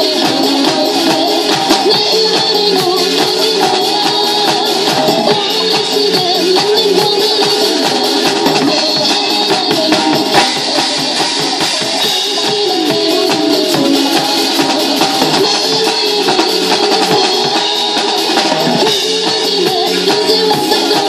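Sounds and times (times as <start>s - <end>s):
drum and cymbal hits: 0.0s - 21.0s
pop song backing track: 0.0s - 21.0s.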